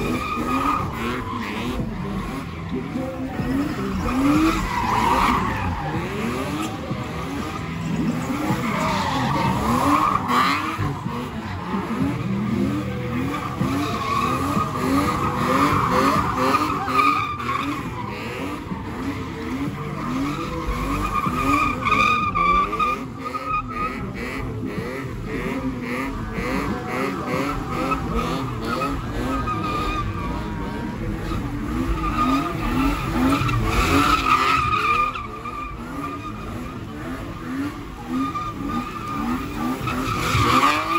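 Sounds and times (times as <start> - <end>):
car engine revving: 0.0 - 40.9
tyres squealing on asphalt: 0.0 - 40.9.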